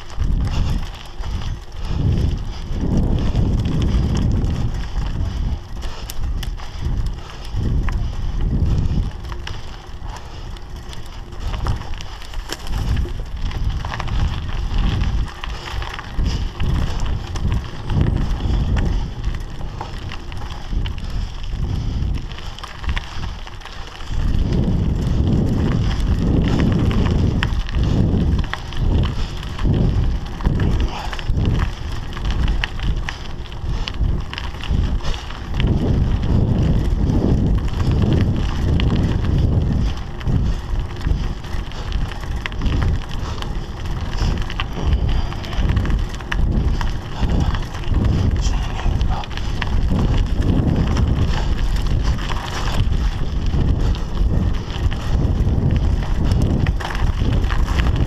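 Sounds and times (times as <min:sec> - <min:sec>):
bike rattling over bumps: 0:00.0 - 0:58.0
bike tyres crunching on dirt: 0:00.0 - 0:58.0
wind rumbling on microphone: 0:00.0 - 0:58.0.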